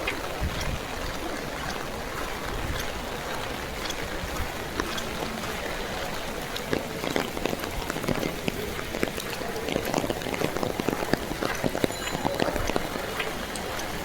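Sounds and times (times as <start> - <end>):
raindrops ticking: 0.0 - 14.0.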